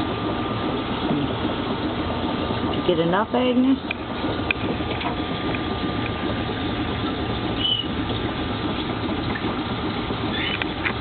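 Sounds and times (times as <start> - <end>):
aquarium filter water rushing: 0.0 - 11.0
pump hum: 0.0 - 11.0.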